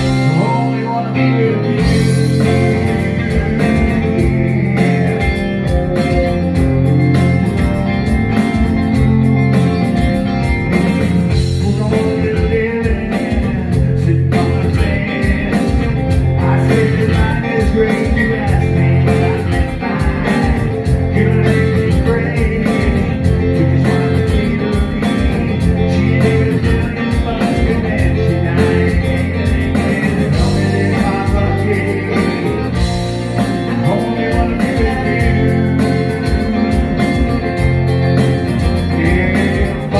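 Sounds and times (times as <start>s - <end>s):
steady drum beat: 0.0s - 1.0s, 1.7s - 39.9s
man singing into a microphone: 0.0s - 6.9s, 11.3s - 37.4s, 38.8s - 39.9s
electric bass: 0.0s - 39.9s
electric guitar: 0.0s - 39.9s.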